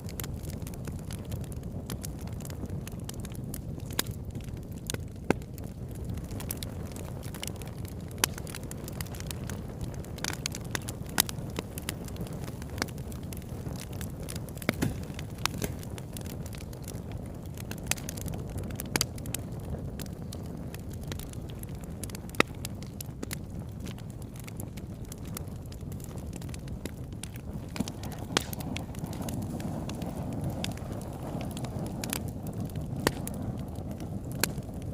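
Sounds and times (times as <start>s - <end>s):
burning wood crackling and popping: 0.0s - 34.9s
campfire flames rumbling: 0.0s - 34.9s.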